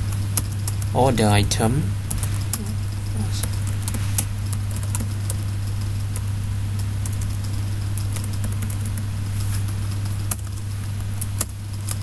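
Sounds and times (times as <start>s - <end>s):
low electrical hum and hiss: 0.0s - 12.0s.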